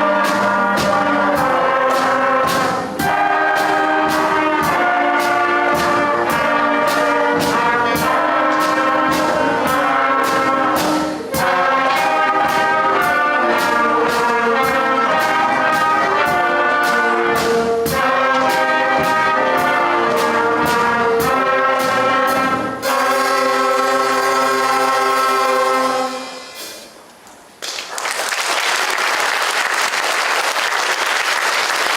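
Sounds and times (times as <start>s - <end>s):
steady drum beat: 0.0s - 26.9s
concert band playing: 0.0s - 27.2s.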